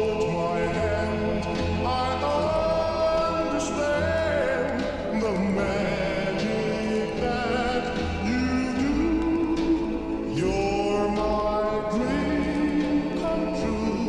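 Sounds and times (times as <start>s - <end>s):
distorted creepy pop song: 0.0s - 14.0s.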